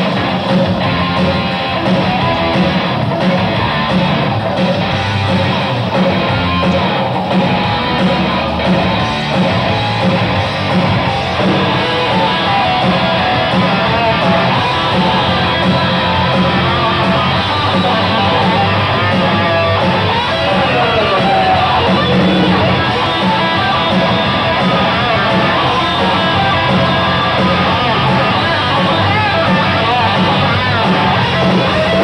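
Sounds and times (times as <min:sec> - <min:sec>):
distorted electric guitars: 0:00.0 - 0:32.0
drums: 0:00.0 - 0:32.0.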